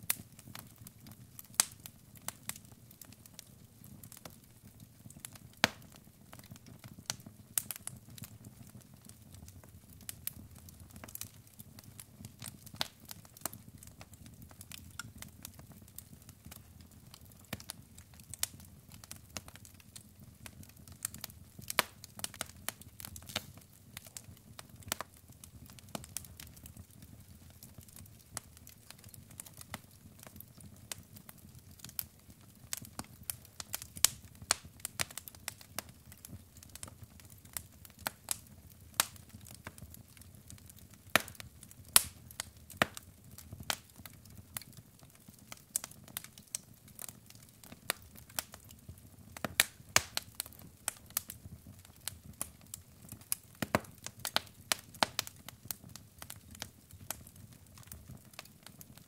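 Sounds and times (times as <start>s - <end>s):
log fire crackling and popping: 0.0s - 59.0s
low rumble of burning: 0.0s - 59.0s.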